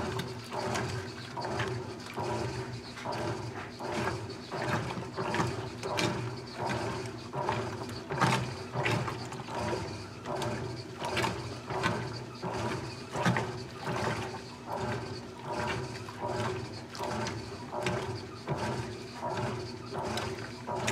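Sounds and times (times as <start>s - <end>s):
motor hum: 0.0s - 20.9s
washing machine agitator sloshing water: 0.0s - 20.9s.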